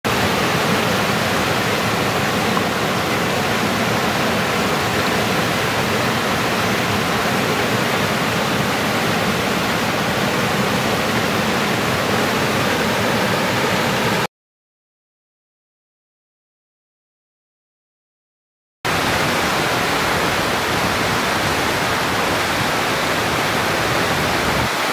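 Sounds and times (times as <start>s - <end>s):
whitewater rushing over rocks: 0.1s - 14.3s, 18.9s - 24.9s.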